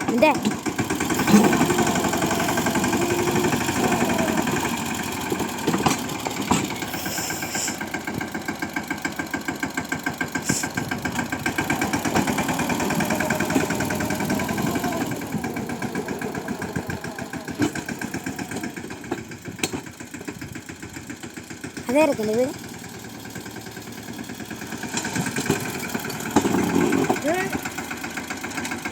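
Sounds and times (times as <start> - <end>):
tractor diesel engine chugging: 0.0 - 28.9.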